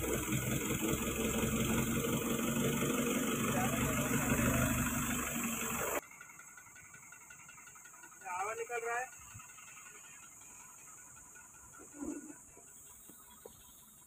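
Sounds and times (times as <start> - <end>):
crane diesel engine running: 0.0 - 14.0.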